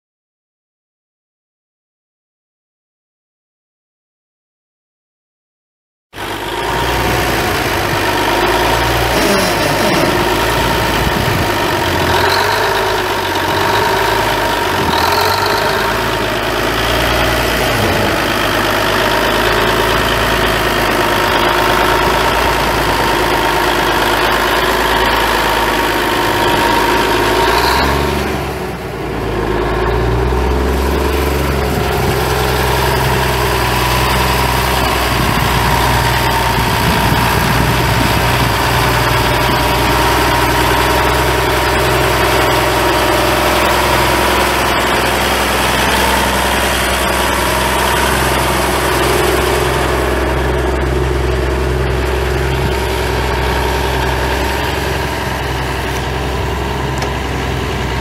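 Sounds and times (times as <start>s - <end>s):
tractor diesel engine idling: 6.2s - 58.0s.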